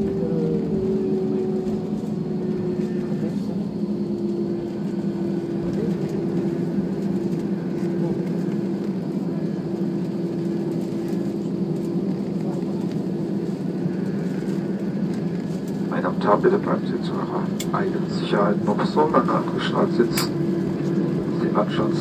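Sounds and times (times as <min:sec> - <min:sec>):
airliner cabin engine hum: 0:00.0 - 0:22.0.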